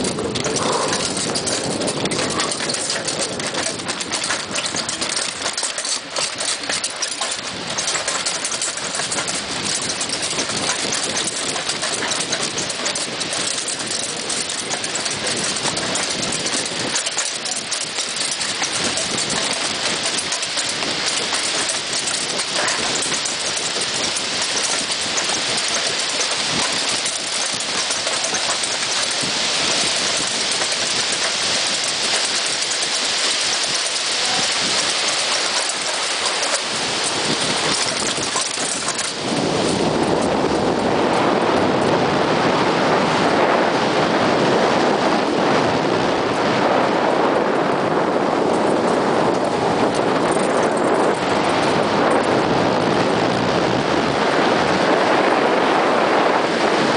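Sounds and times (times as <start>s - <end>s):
bicycle rattling over stone steps: 0.0s - 45.4s, 46.3s - 56.9s
wind rushing over microphone: 0.0s - 56.9s.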